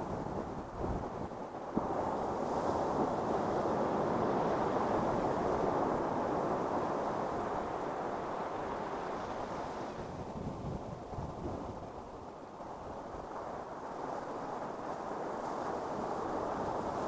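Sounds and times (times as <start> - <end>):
ocean waves washing on beach: 0.0 - 17.0.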